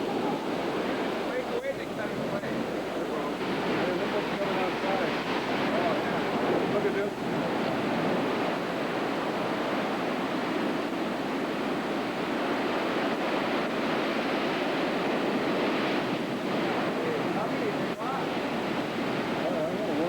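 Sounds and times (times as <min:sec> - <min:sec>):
heavy surf breaking: 0:00.0 - 0:20.0
wind on microphone: 0:00.0 - 0:20.0.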